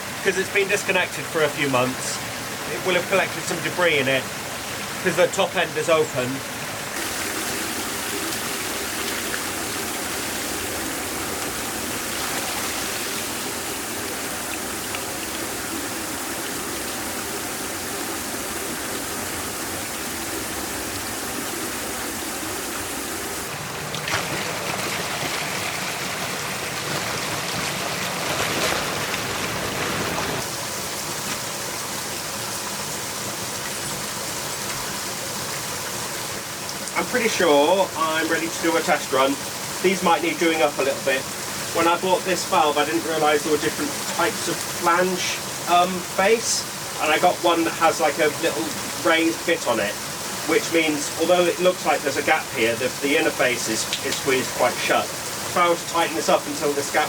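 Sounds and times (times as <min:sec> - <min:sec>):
water rushing out of pipe: 0:00.0 - 0:57.0.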